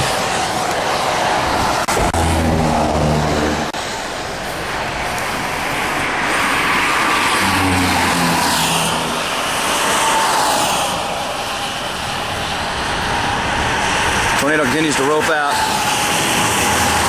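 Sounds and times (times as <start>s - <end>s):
highway traffic rushing: 0.0s - 17.0s.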